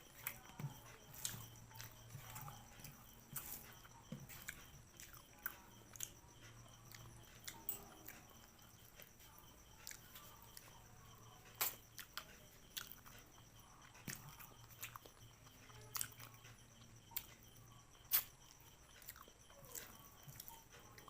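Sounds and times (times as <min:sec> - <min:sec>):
food crunching: 0:00.0 - 0:13.4, 0:14.0 - 0:21.0
chewing and biting: 0:00.0 - 0:21.0.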